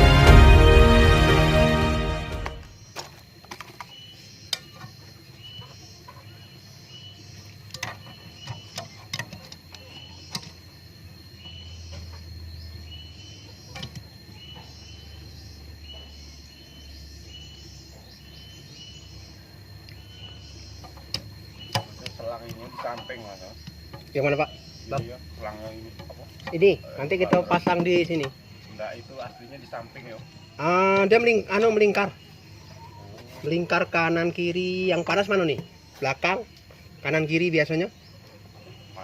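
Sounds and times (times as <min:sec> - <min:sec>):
small bird chirping: 0:03.8 - 0:10.7, 0:11.3 - 0:39.0.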